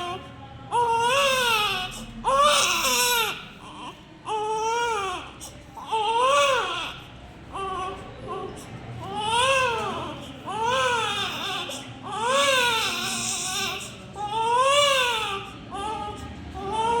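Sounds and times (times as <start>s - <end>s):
newborn baby crying: 0.0s - 17.0s.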